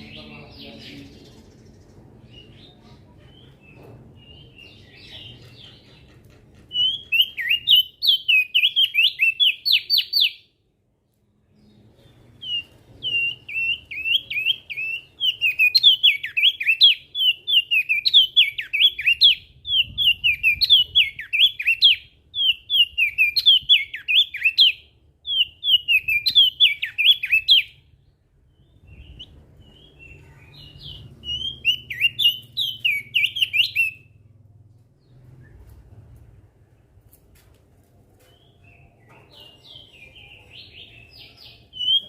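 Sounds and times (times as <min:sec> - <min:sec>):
bird twittering song: 0:00.0 - 0:10.6, 0:11.4 - 0:34.3, 0:38.2 - 0:42.0.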